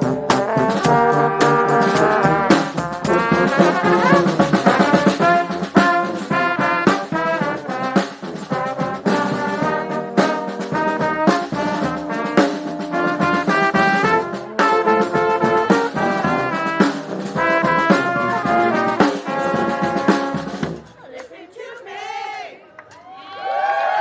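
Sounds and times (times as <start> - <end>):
drum hits: 0.0 - 20.9
brass band playing: 0.0 - 21.0.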